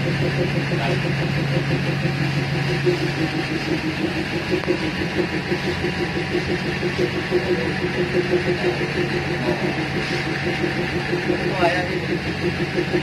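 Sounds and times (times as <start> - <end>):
diesel train engine idling: 0.0 - 13.0.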